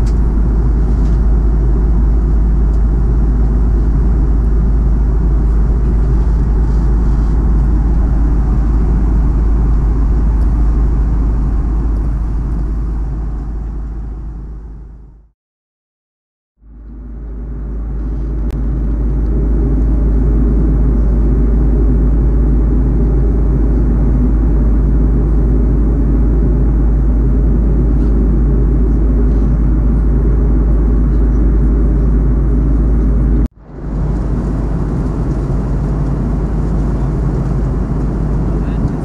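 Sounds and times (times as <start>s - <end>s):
airliner cabin rumble: 0.0s - 15.3s, 16.6s - 39.0s.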